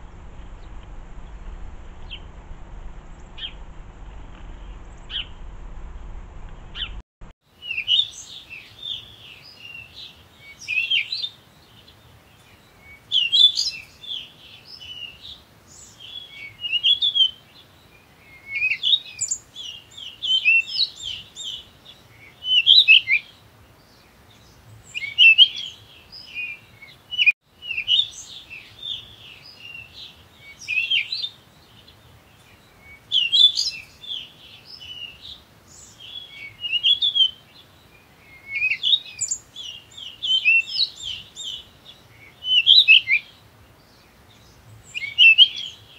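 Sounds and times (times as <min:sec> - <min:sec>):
songbird twittering: 0:00.1 - 0:02.4, 0:03.0 - 0:03.7, 0:04.4 - 0:05.4, 0:06.6 - 0:07.0, 0:07.6 - 0:45.9.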